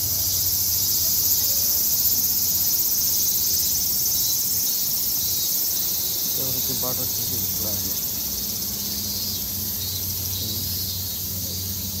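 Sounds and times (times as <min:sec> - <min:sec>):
insects buzzing trill: 0:00.0 - 0:12.0.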